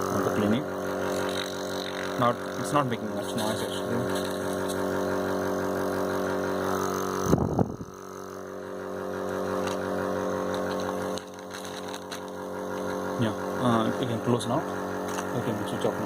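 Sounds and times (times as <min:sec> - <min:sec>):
compressor buzzing hum: 0:00.0 - 0:16.0.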